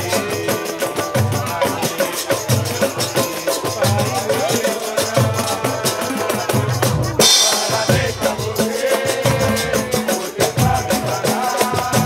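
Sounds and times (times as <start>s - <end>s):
cavaquinhos strumming: 0.0s - 12.0s
rapid pandeiro and drum strokes: 0.0s - 12.0s
surdo bass drums booming: 0.0s - 12.0s.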